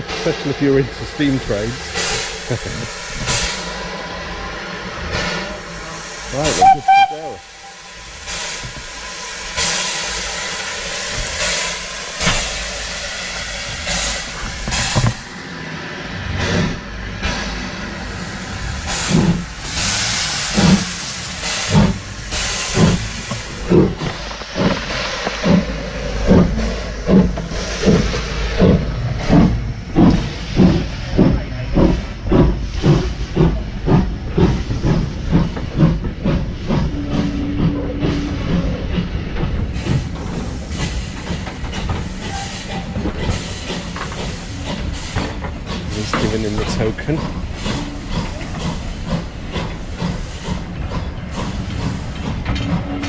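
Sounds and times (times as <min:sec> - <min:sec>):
steam hissing: 0:00.0 - 0:53.0
steam locomotive exhaust chuffs: 0:00.0 - 0:53.0.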